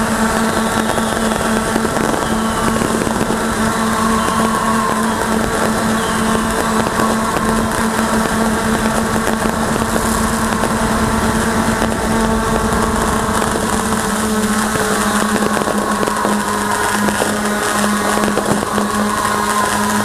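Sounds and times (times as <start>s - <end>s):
drone propellers whirring: 0.0s - 20.0s
faint fireworks pops: 0.0s - 20.0s.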